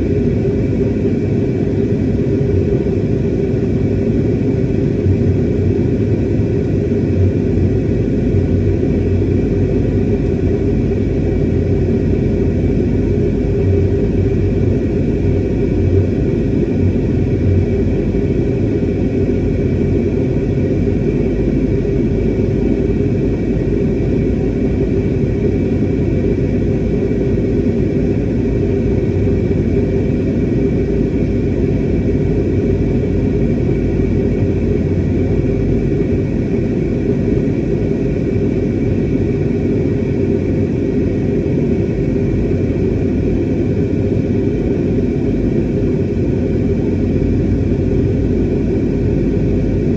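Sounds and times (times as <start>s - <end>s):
jet engine drone: 0.0s - 49.9s.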